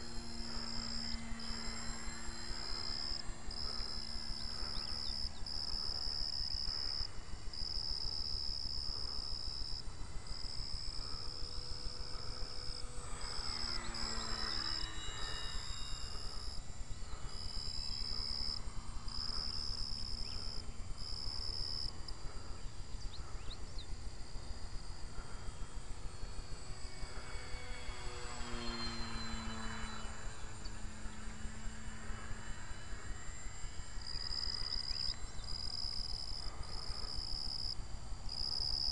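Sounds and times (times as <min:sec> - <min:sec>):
insects chirping: 0:00.0 - 0:38.9
model plane motor buzzing: 0:00.0 - 0:38.9.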